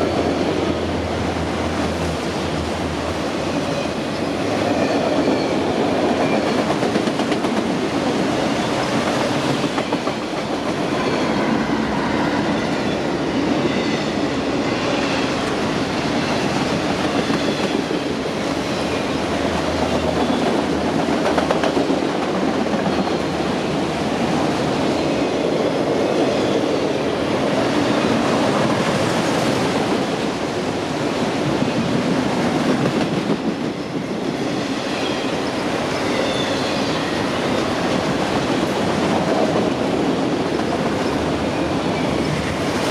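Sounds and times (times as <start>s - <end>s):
train rumbling past: 0.0s - 42.9s.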